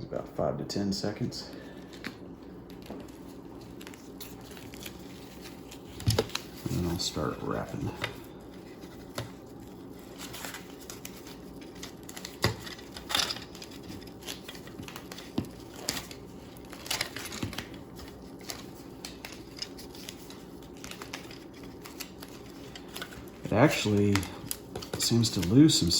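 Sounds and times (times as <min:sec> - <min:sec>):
wrap rustling and crinkling: 0:01.8 - 0:25.9.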